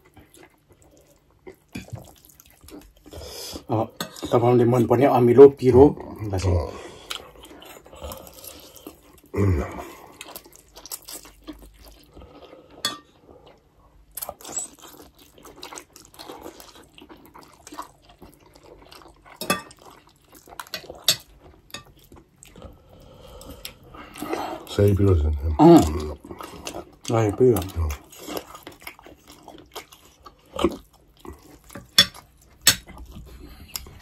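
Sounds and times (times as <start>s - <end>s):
noodles slurped and chewed: 0.0s - 4.5s, 6.0s - 34.0s.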